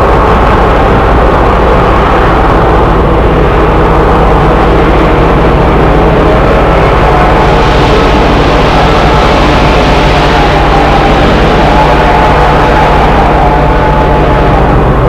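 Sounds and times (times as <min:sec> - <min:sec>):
engine drone: 0:00.0 - 0:15.0
train rumbling: 0:00.0 - 0:15.0.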